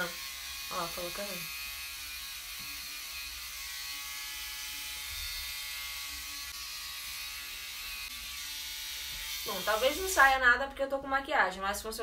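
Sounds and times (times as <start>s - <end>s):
electric hair remover buzzing: 0.0s - 10.4s.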